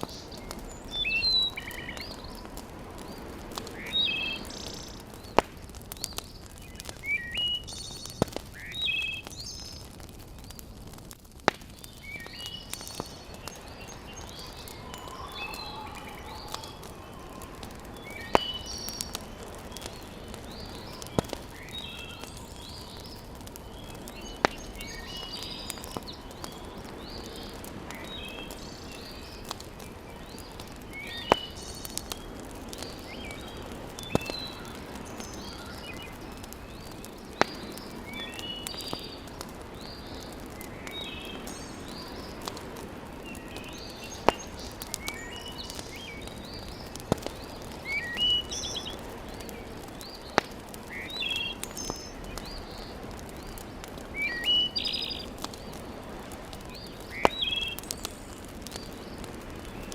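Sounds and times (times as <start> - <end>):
birds chirping: 0.0 - 10.6, 11.6 - 59.9
wood fire crackling: 0.0 - 59.9.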